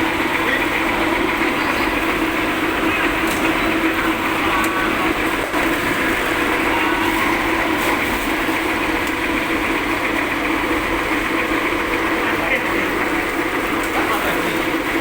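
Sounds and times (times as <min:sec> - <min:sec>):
machine rollers running: 0:00.0 - 0:15.0.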